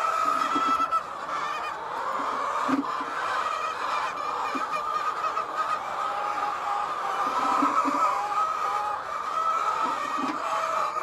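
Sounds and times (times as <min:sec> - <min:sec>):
hens calling: 0:00.0 - 0:11.0.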